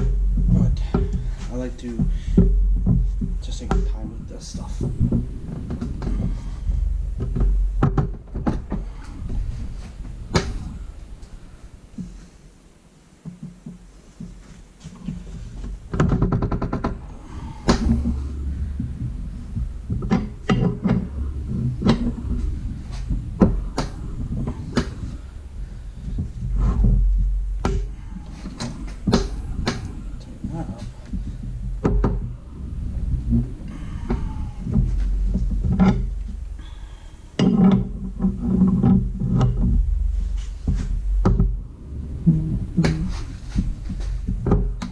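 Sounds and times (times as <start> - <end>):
metal clicks and knocks: 0.0 - 10.8, 15.0 - 41.6.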